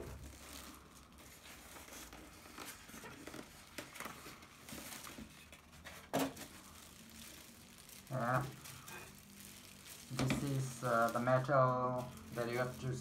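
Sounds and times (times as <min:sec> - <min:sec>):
soft rustling: 0:00.0 - 0:13.0.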